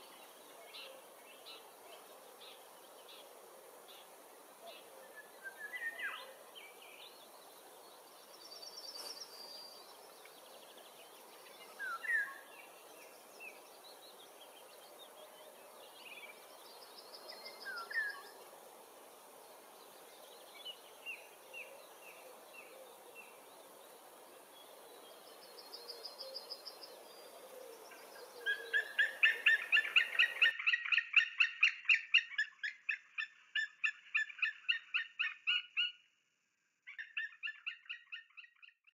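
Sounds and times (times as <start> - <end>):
small birds chirping: 0.0 - 36.1, 36.8 - 38.9.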